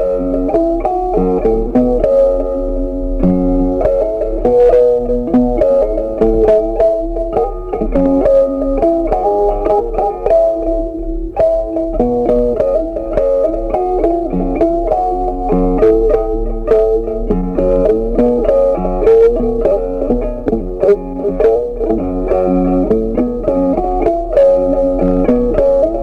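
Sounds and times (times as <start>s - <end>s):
plucked guitar tune with bass: 0.0s - 26.0s.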